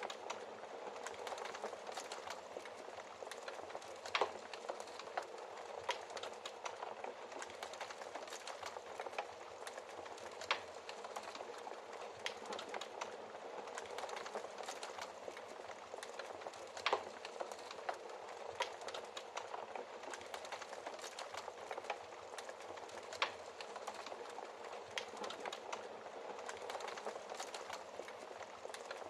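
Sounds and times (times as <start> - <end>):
fire popping: 0.0 - 29.0
wood fire crackling: 0.0 - 29.0.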